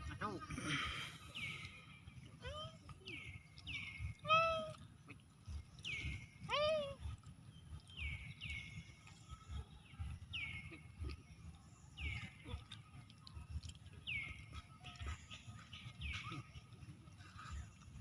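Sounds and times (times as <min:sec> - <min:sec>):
soft low thumps: 0:01.3 - 0:18.0.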